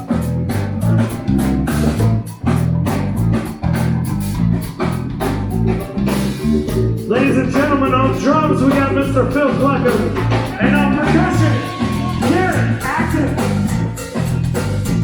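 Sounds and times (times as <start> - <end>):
higher melodic part: 0.0 - 15.0
live band instrumental groove: 0.0 - 15.0.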